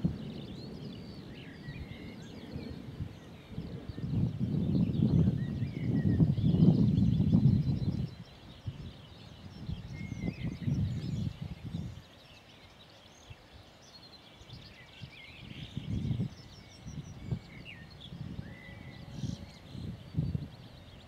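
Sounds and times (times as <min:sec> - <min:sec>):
songbirds chirping and singing: 0:00.0 - 0:21.0
wind buffeting microphone: 0:00.0 - 0:21.0.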